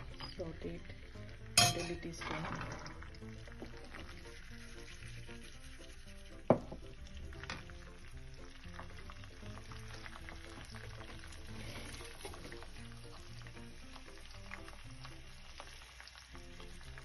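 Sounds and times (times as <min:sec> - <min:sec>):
soft background music: 0:00.0 - 0:17.0
spices sizzling in oil: 0:00.0 - 0:17.0.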